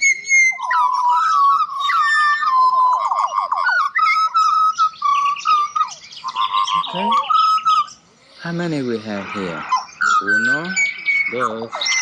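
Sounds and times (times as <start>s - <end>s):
butcherbirds singing: 0.0s - 12.0s.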